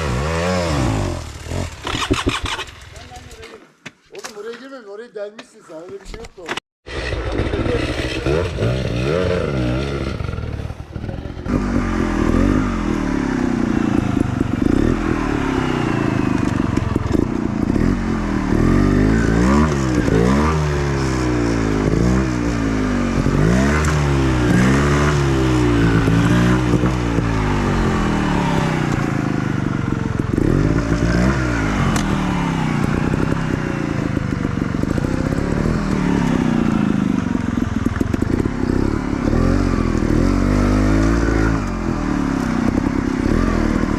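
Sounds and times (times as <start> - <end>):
dirt bike engine revving: 0.0 - 3.4, 6.9 - 43.9.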